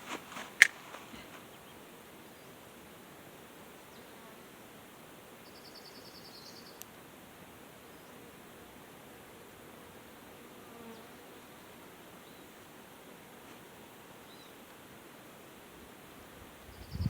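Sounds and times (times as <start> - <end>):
faint insect buzzing: 0.0 - 17.0
low steady hiss: 0.0 - 17.0.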